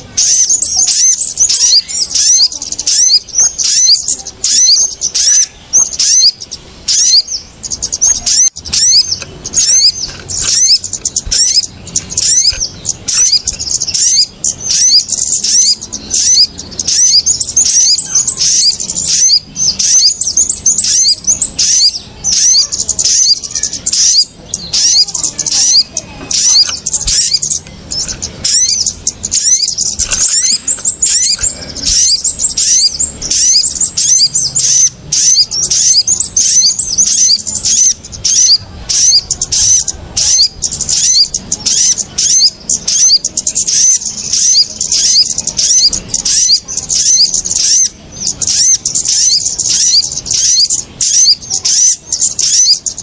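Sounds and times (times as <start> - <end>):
small birds chirping in chorus: 0.0 - 53.0.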